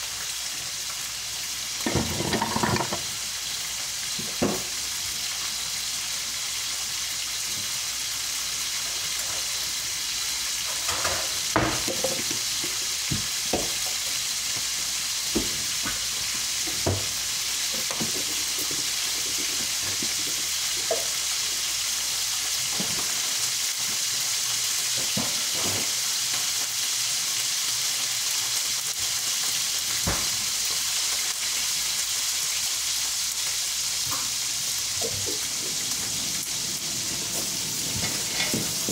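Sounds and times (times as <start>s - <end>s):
fish sizzling in oil: 0.0s - 38.9s.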